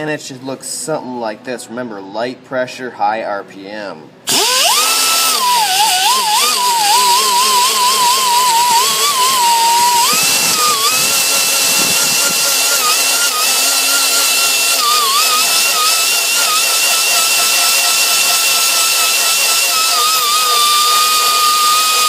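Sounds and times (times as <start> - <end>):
rotary tool whining on metal: 4.3 - 22.0.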